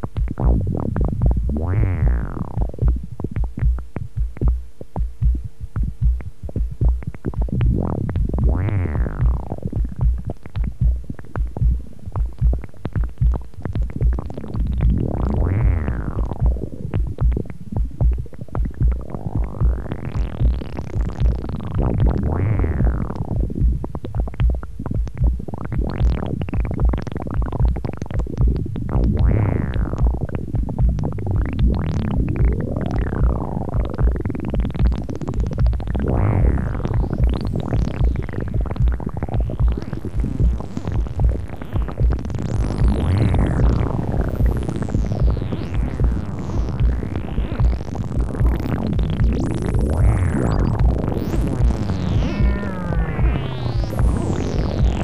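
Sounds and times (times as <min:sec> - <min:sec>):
low pulsing synth beat: 0:00.0 - 0:55.0
swept synth tones: 0:00.0 - 0:55.0.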